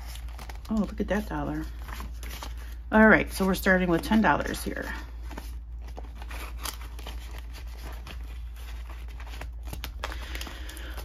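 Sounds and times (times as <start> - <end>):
plastic pages rustling: 0.0 - 11.0.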